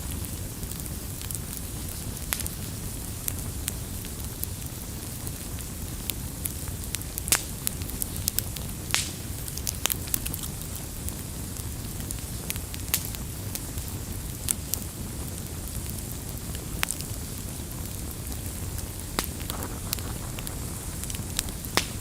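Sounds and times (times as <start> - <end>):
campfire crackling: 0.0 - 22.0
low rumble of flames: 0.0 - 22.0.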